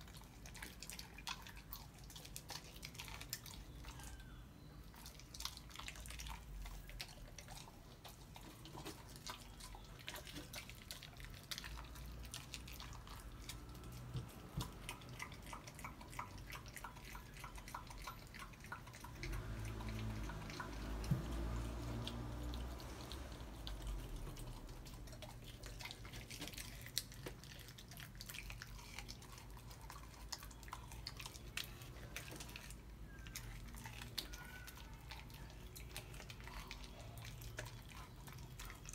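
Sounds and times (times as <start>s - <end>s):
dog chewing bones: 0.0s - 38.9s.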